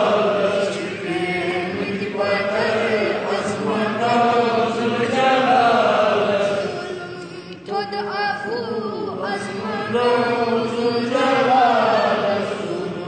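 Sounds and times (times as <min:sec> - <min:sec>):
child singing devotional song: 0:00.0 - 0:05.5, 0:06.1 - 0:13.0.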